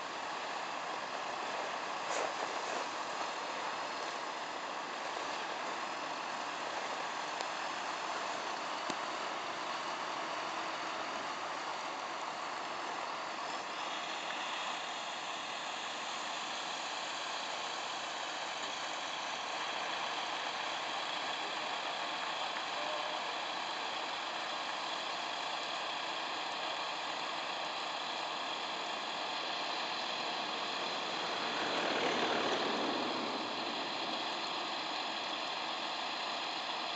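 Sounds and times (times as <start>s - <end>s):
vehicle engines running: 0.0s - 36.9s.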